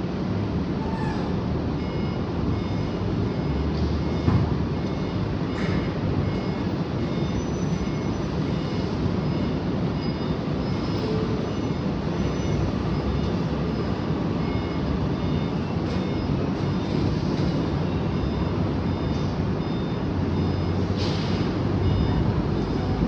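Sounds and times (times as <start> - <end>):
heavy truck rumbling: 0.0 - 23.0.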